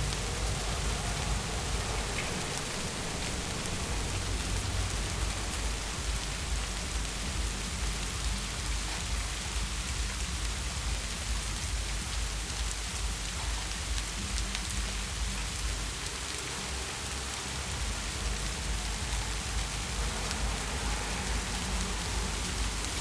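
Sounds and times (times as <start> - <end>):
heavy rain falling: 0.0 - 23.0
low rumble: 0.0 - 23.0.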